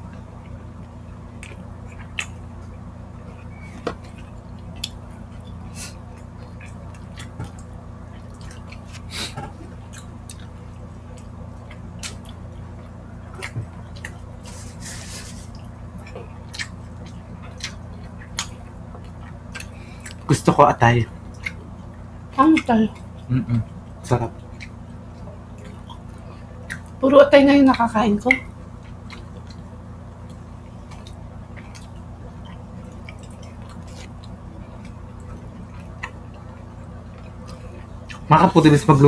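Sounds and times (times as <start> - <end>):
steady low hum: 0.0 - 39.0
wet chewing and lip smacks: 0.1 - 20.3, 21.2 - 27.0, 28.3 - 38.3.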